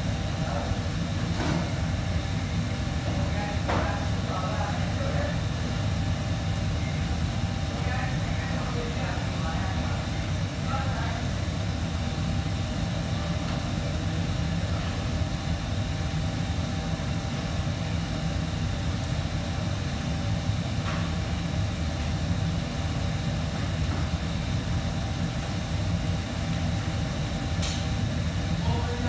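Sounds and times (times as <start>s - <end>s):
faint steady whines: 0.0s - 29.0s
kitchen machinery droning: 0.0s - 29.0s.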